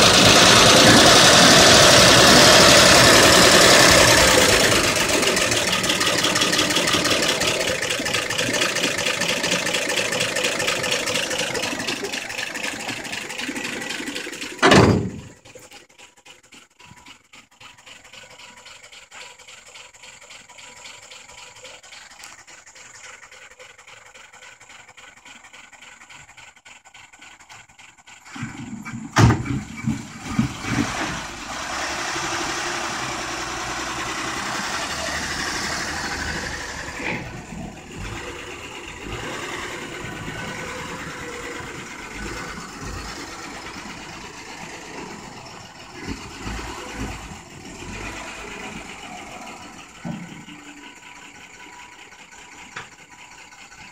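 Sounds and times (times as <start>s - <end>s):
truck engine cranking: 0.0s - 53.9s
truck engine idling: 0.0s - 53.9s.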